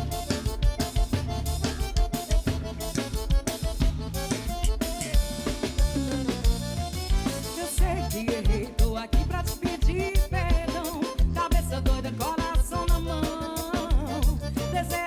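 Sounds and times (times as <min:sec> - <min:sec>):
bass line: 0:00.0 - 0:15.0
drum kit beat: 0:00.0 - 0:15.0.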